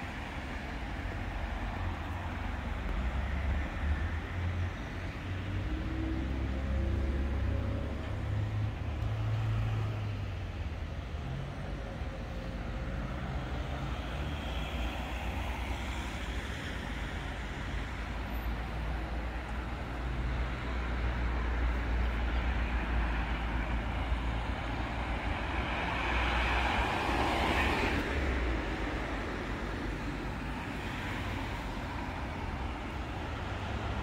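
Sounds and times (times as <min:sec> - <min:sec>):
low rumble of vehicles: 0:00.0 - 0:34.0.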